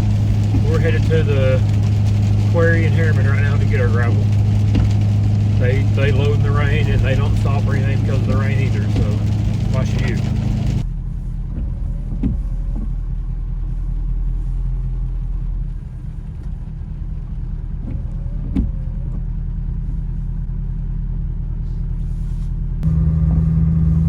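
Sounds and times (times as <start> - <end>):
pickup truck engine and road drone: 0.0 - 24.0.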